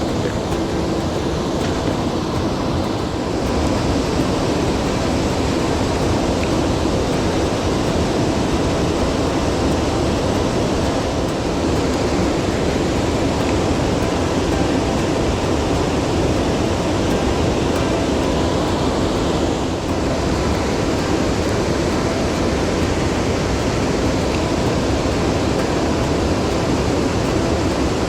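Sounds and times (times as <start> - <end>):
mountain stream rushing: 0.0 - 28.0.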